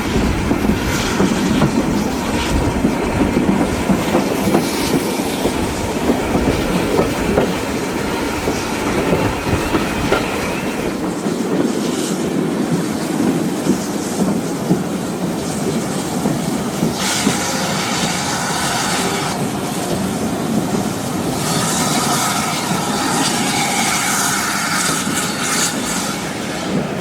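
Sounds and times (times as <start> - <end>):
train wheels clickety-clack: 0.0 - 27.0.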